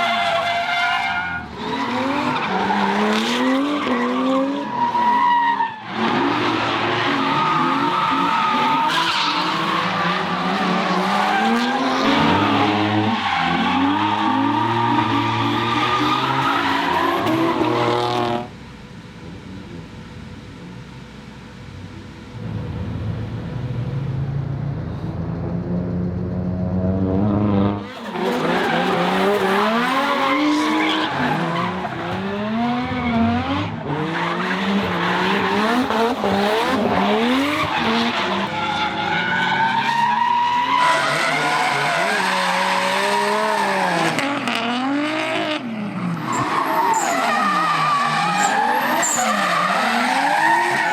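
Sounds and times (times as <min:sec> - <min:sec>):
tyres squealing and skidding: 0:00.0 - 0:18.4, 0:27.8 - 0:50.9
car engines revving: 0:00.0 - 0:50.9.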